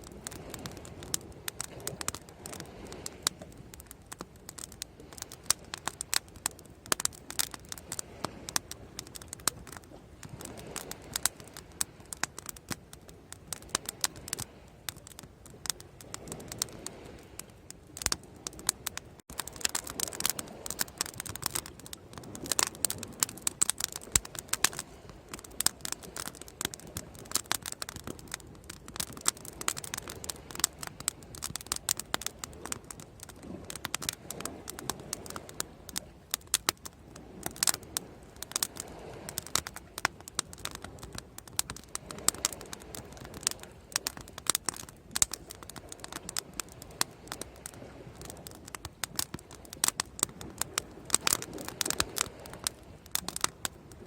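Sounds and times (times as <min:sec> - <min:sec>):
bonfire crackling: 0:00.0 - 0:54.0.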